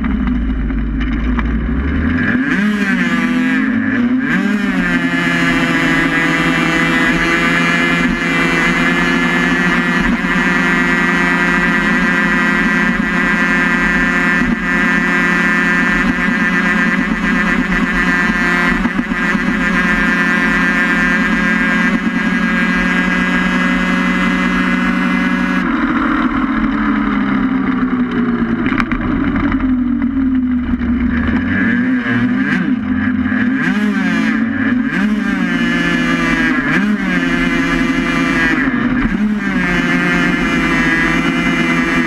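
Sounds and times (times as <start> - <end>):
racing vehicle engine at speed: 0.0 - 42.0.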